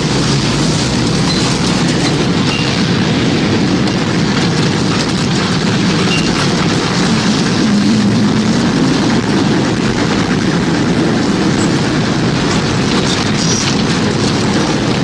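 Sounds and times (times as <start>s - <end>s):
strong wind deep rumble: 0.0s - 15.0s.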